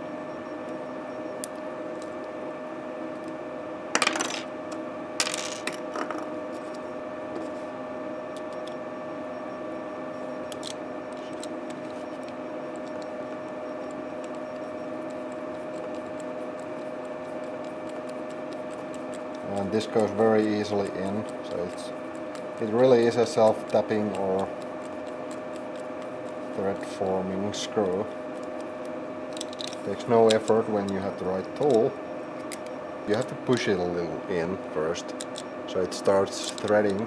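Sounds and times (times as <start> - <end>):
furnace humming: 0.0 - 37.0.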